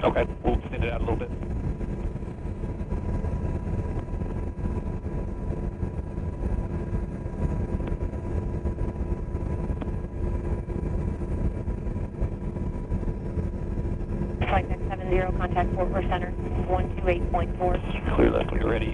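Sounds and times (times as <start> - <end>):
constant hums: 0.0 - 18.9
helicopter rotor rumble in cabin: 0.0 - 18.9.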